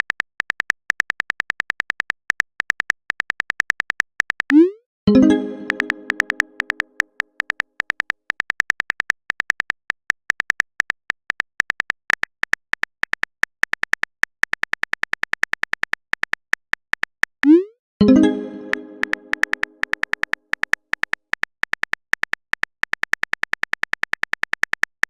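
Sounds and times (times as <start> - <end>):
phone keyboard typing taps: 0.0 - 17.6, 18.2 - 25.0.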